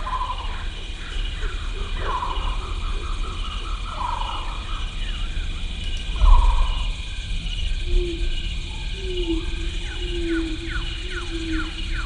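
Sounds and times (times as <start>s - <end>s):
low rumble: 0.0s - 10.4s
pulsing insect chorus: 0.0s - 12.0s
steady low tone: 0.0s - 12.0s.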